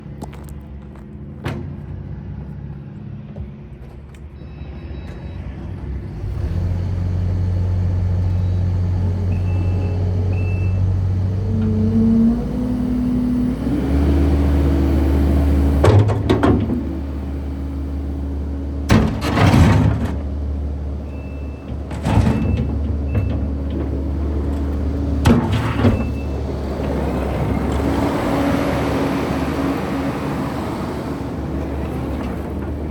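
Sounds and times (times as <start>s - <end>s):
diesel engine running: 5.6s - 32.9s.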